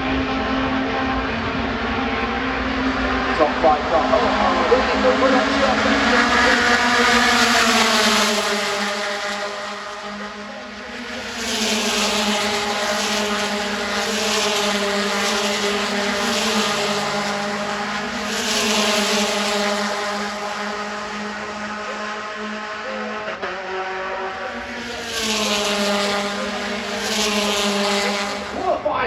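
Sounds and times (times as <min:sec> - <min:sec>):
race car engines at speed: 0:00.0 - 0:29.0.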